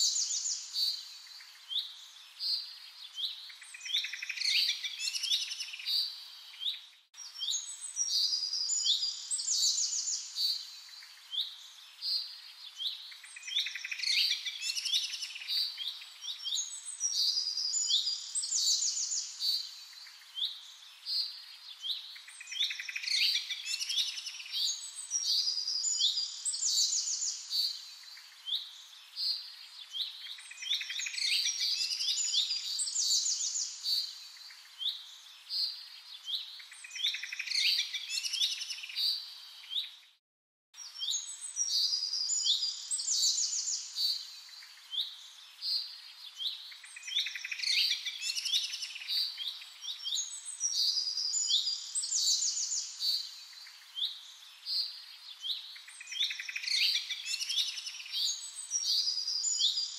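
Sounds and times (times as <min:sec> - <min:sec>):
faint hiss: 0:00.0 - 0:40.2, 0:40.8 - 0:59.9
small birds chirping: 0:00.0 - 0:40.2, 0:40.8 - 0:59.9.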